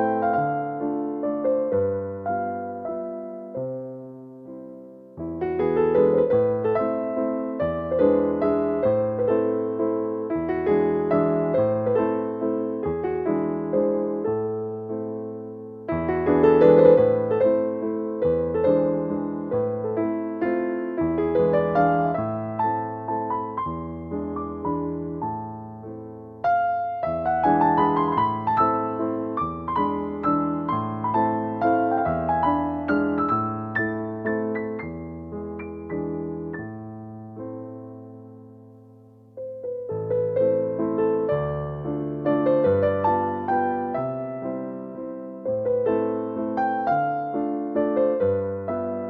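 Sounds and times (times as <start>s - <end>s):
gentle piano music: 0.0s - 49.0s.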